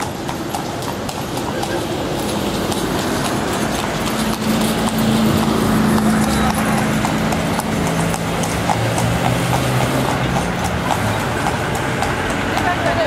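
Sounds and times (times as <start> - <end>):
engine hum: 0.0 - 13.0
horse hooves clip-clopping on pavement: 0.0 - 13.0
traffic noise: 0.0 - 13.0.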